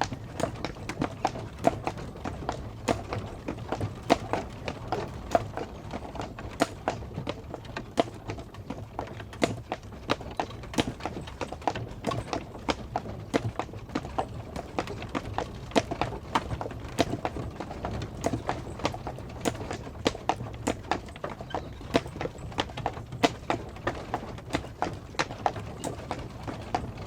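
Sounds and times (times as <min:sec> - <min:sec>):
horse hooves clip-clopping: 0:00.0 - 0:27.0.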